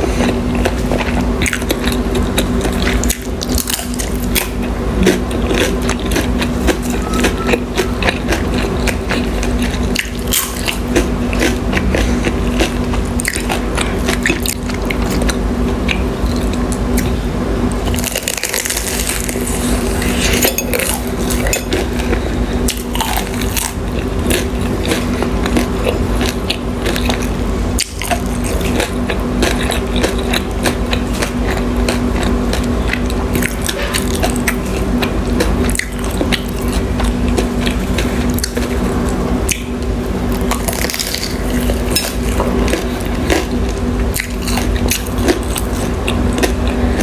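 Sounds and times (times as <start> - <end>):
wet chewing and biting: 0.0 - 17.2, 17.9 - 47.0
steady low hum: 0.0 - 47.0.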